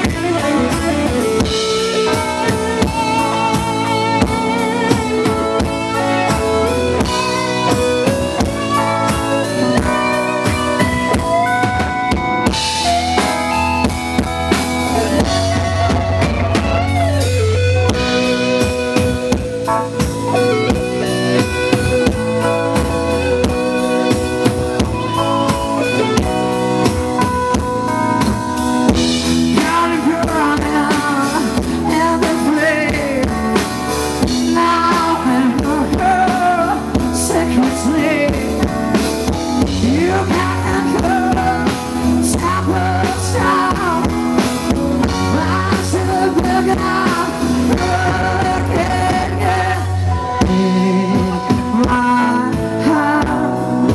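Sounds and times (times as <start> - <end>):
bending lead guitar line: 0.0 - 53.9
live rock band playing: 0.0 - 53.9.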